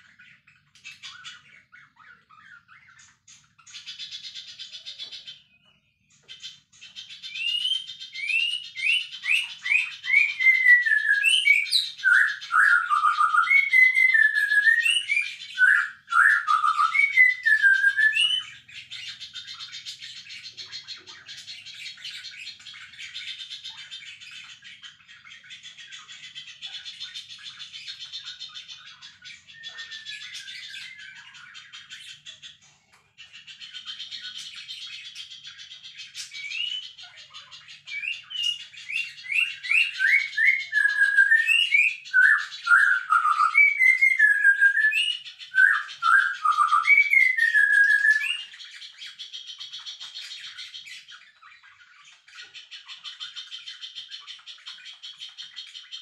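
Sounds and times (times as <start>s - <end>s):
songbird chattering warble: 0.0s - 56.0s
songbird whistled phrases: 6.9s - 26.0s, 26.8s - 32.3s, 33.8s - 56.0s.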